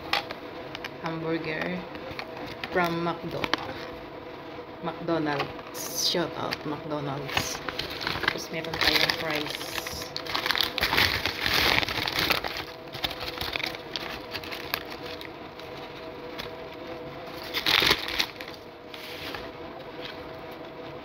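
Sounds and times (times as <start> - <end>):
paper wrapper crinkling: 0.0 - 4.0, 5.4 - 21.0.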